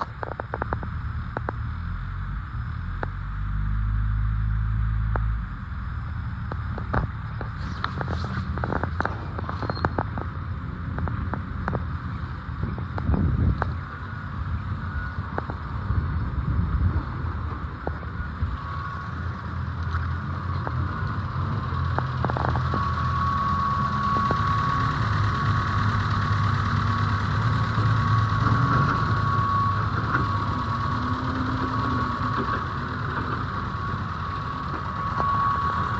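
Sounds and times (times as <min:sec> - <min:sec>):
car engine idling: 0:00.0 - 0:35.9
high-pitched whine: 0:00.0 - 0:35.9.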